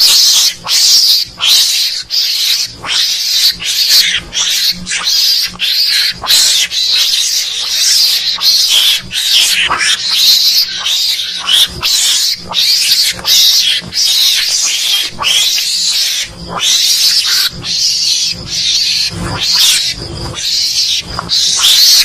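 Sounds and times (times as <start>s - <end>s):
high-pitched squealing calls: 0.0s - 22.0s.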